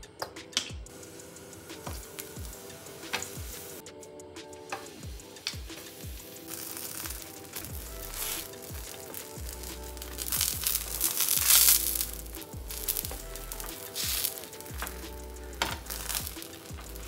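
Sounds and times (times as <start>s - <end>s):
background music: 0.0s - 17.0s
food sizzling in a pan: 0.9s - 3.8s, 4.6s - 17.0s.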